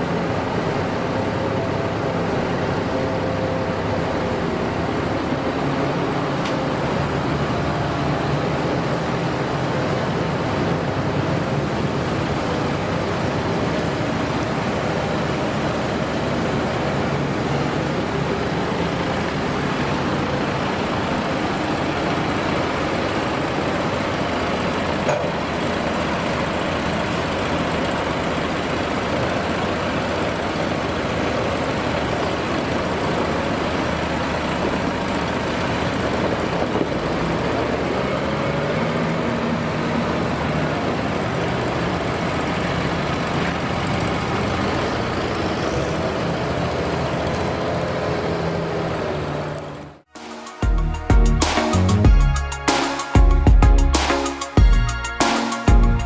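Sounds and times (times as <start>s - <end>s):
engine idling: 0.0s - 50.1s.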